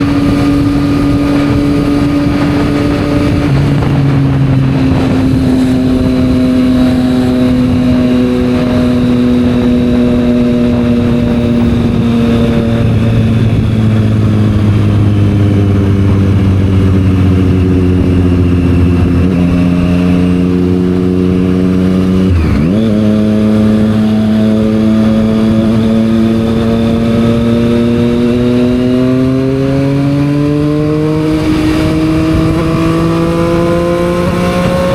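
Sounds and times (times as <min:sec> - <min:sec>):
motorcycle engine pulling: 0:00.0 - 0:34.9.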